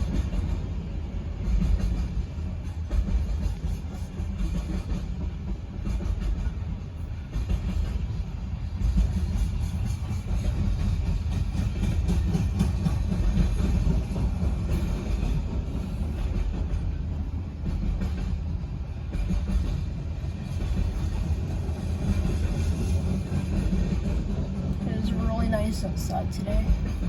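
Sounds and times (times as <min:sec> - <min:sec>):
train cars clattering: 0:00.0 - 0:27.0
train wheels rumbling on rails: 0:00.0 - 0:27.0.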